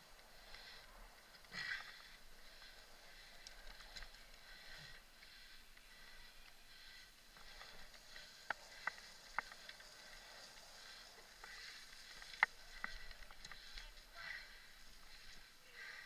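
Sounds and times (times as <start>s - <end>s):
hiss of bike tyres: 0.0s - 16.0s.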